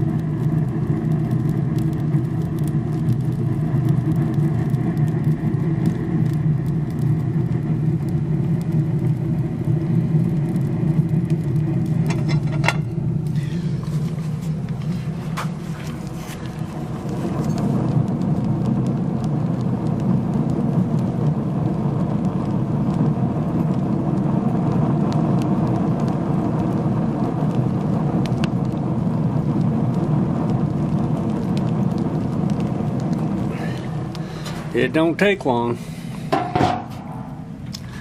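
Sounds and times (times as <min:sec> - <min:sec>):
furnace fire rumbling: 0:00.0 - 0:38.0.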